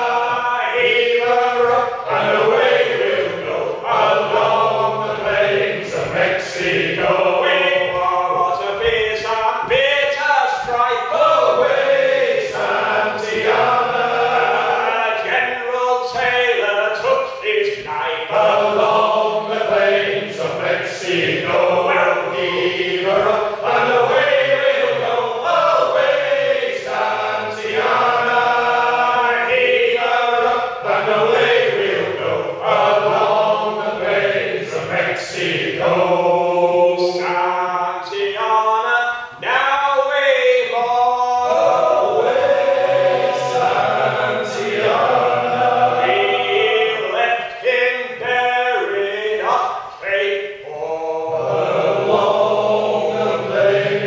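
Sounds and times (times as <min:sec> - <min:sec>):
men singing unaccompanied: 0:00.0 - 0:54.0.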